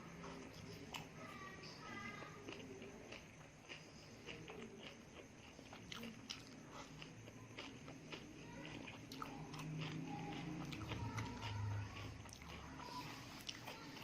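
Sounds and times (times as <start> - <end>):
chewing crunchy food: 0.1 - 14.0.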